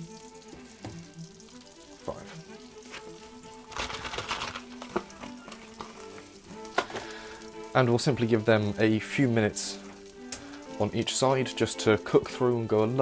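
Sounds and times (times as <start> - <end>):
background music held notes: 0.0 - 13.0
food sizzling in frying pan: 0.0 - 13.0.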